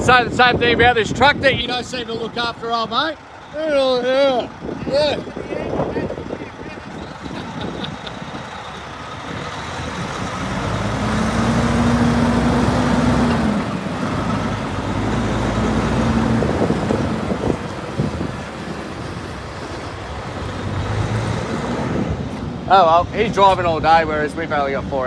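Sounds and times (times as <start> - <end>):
heavy truck engine drone: 0.0 - 25.0
road noise: 0.0 - 25.0.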